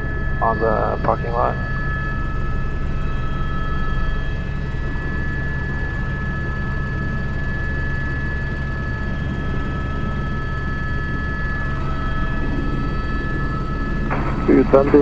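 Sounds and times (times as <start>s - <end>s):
helicopter rotor and engine drone: 0.0s - 15.0s
turbine and gearbox whine: 0.0s - 15.0s.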